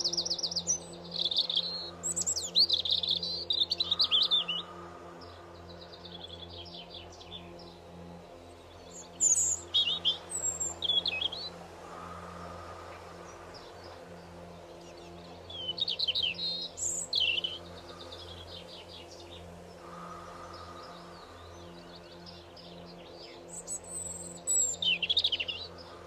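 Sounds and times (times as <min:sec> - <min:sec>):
songbird chirping and warbling: 0:00.0 - 0:26.0
steady low hum: 0:00.0 - 0:26.0.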